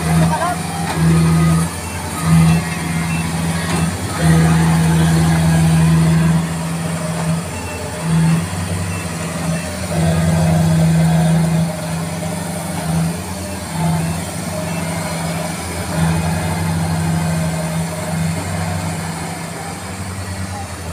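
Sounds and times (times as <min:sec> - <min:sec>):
diesel engine under heavy load: 0:00.0 - 0:20.9.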